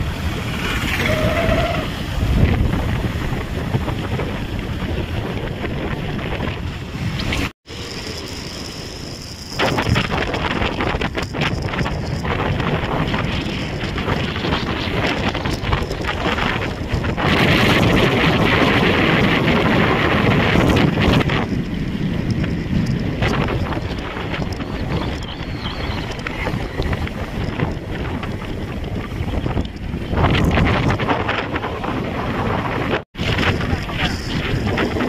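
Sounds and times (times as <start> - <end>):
wind buffeting microphone: 0.0 - 7.5, 8.3 - 35.0
motorbike and road rumble: 0.0 - 35.0.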